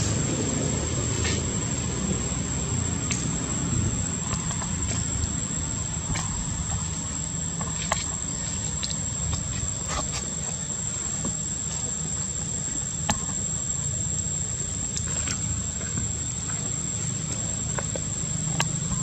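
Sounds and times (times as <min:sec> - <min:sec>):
high insect whine: 0:00.0 - 0:19.0
steady low rumble: 0:00.0 - 0:19.0.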